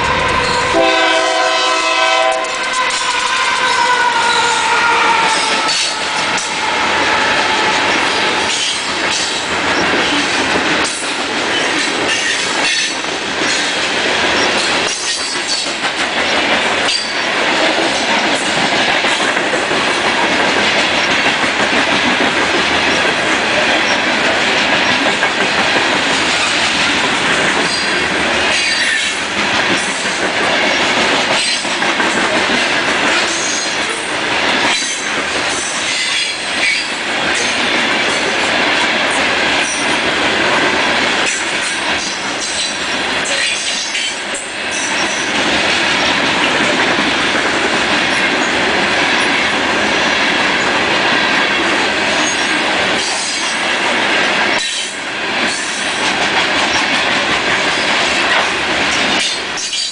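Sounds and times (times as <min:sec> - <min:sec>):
train wheels rumbling on rail: 0:00.0 - 0:59.9
clacks over rail joints: 0:05.3 - 0:59.9.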